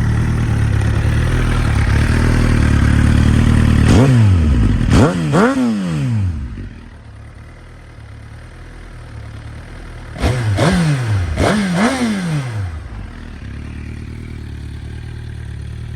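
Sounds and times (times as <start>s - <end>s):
motorcycle engine idling and revving: 0.0s - 15.9s.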